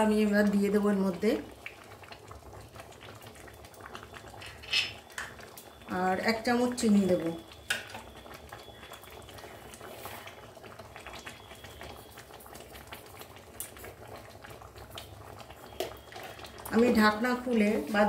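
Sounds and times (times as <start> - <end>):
dal simmering with small pops: 0.0 - 18.0.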